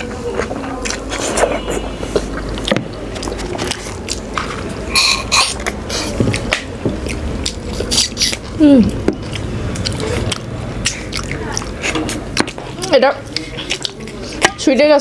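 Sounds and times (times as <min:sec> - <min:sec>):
wet chewing and lip smacks: 0:00.0 - 0:04.7, 0:05.3 - 0:14.6.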